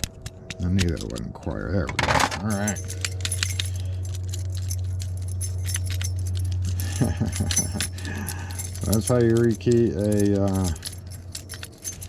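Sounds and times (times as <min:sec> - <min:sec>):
lock parts clicking and rattling: 0:00.0 - 0:12.0
steady low hum: 0:00.0 - 0:12.0.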